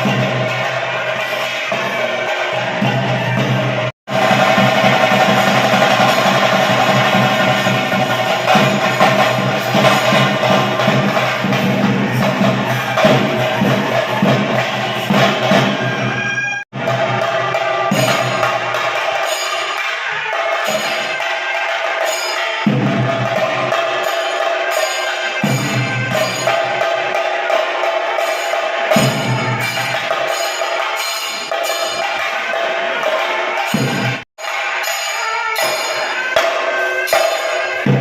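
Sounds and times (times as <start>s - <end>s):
cymbals: 0.0s - 38.0s
drums beaten in fast rhythm: 0.0s - 38.0s.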